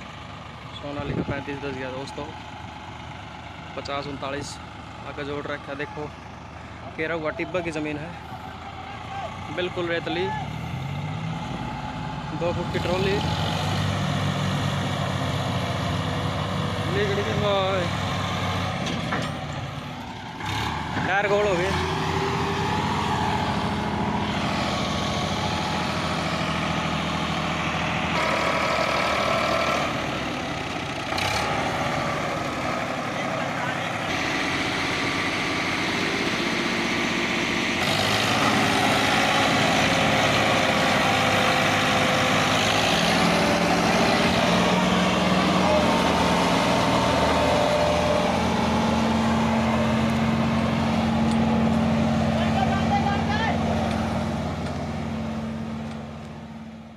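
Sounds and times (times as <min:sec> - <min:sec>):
diesel tractor engines under load: 0:00.0 - 0:56.9.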